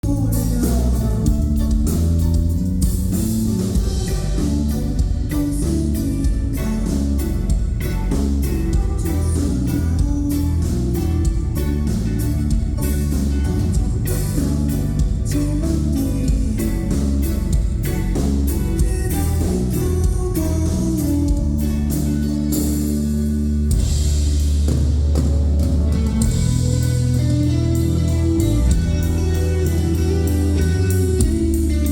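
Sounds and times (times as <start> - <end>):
bass guitar: 0.0 - 31.9
drum kit beat: 0.0 - 31.9
electric guitar: 0.0 - 31.9
live rock band playing: 0.0 - 31.9.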